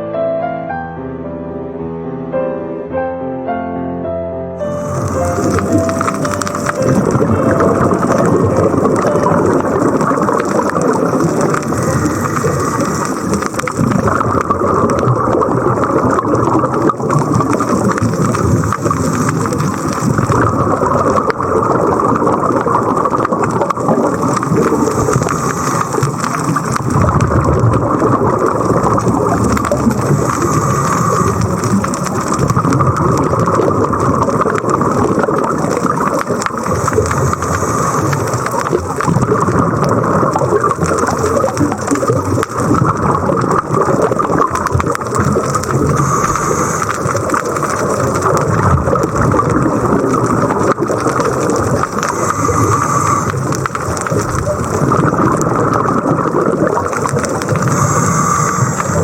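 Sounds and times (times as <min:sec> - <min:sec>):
loud rushing water: 0:04.6 - 0:59.0.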